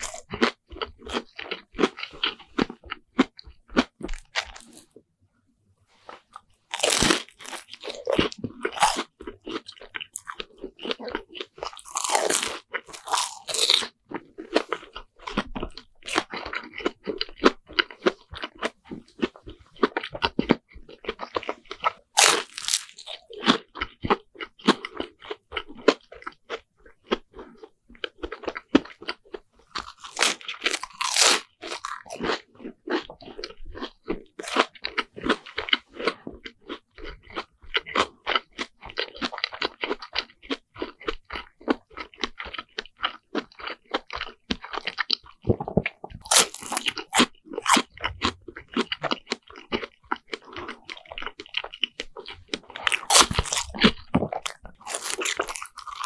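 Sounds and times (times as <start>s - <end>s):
crunching fried bread: 0.0s - 5.0s, 6.0s - 56.0s.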